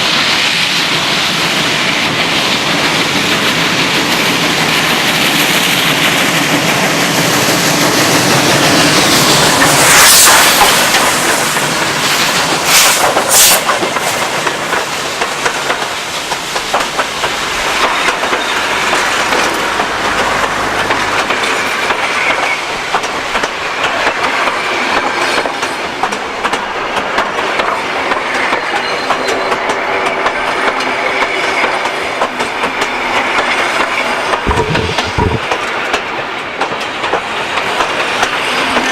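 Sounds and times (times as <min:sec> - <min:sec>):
train rushing rumble: 0:00.0 - 0:38.9
train wheels clicking on rail joints: 0:00.9 - 0:38.9.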